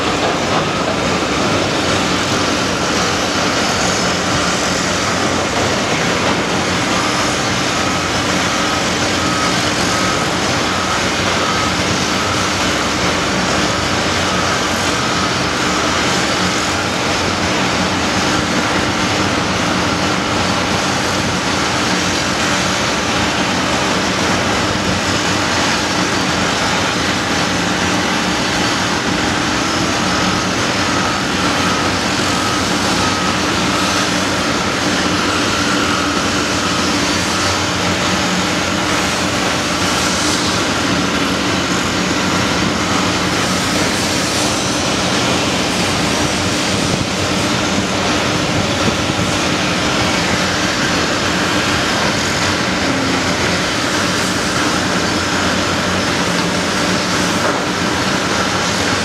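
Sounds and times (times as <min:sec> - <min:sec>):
excavator engine and hydraulics droning: 0:00.0 - 0:59.0.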